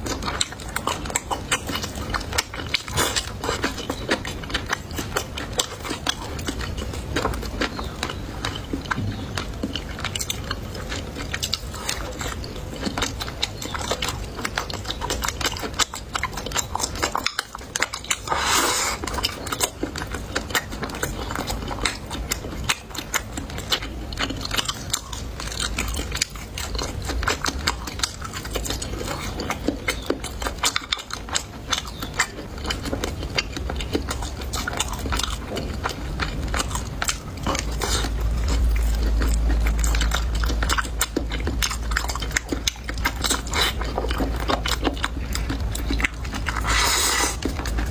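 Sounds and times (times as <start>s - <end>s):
person chewing and crunching food: 0.0s - 47.9s.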